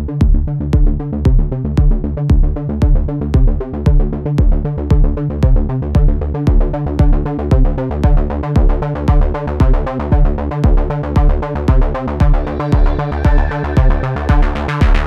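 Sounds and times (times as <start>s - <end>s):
electronic music with drum-machine beat: 0.0s - 15.0s.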